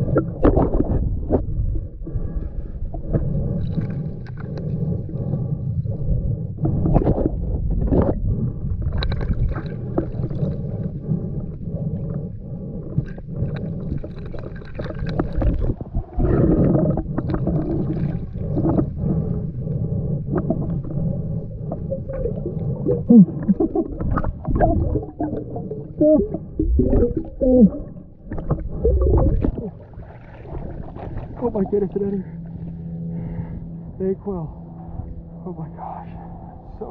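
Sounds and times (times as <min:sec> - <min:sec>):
warbling gurgles: 0:00.0 - 0:32.8
water gurgling and bubbling: 0:00.0 - 0:35.5
underwater low rumble: 0:00.0 - 0:36.9.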